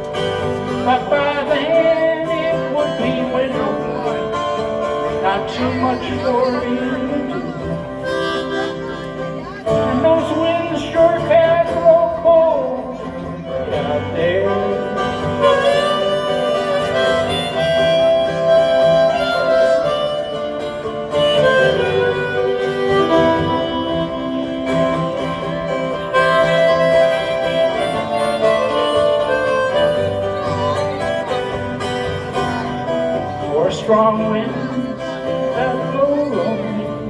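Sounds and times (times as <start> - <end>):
harmonica solo: 0.0 - 33.6
folk country band: 0.0 - 37.0
strummed acoustic guitar: 0.0 - 37.0.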